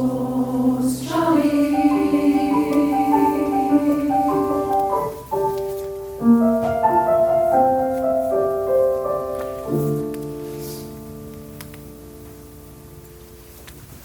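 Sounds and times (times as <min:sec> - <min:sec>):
piano playing: 0:00.0 - 0:14.0.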